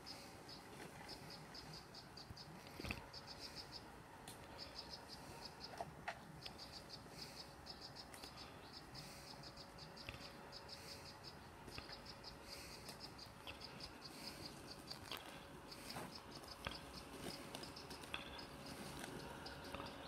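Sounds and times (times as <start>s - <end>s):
robotic lawn mower hum: 0.0s - 20.0s.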